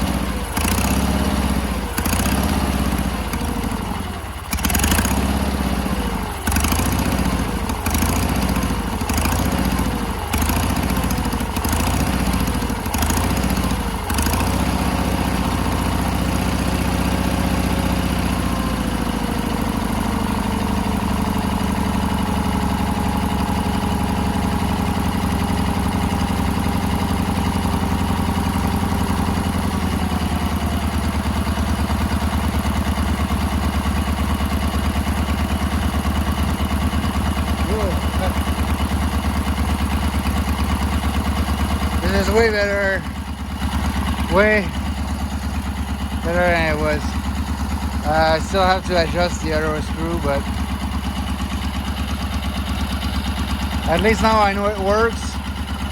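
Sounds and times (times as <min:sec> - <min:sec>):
small engine surging: 0:00.0 - 0:55.9.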